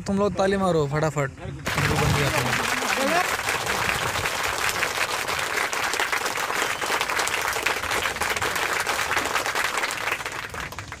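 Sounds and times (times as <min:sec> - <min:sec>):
group of people clapping: 0:01.6 - 0:11.0.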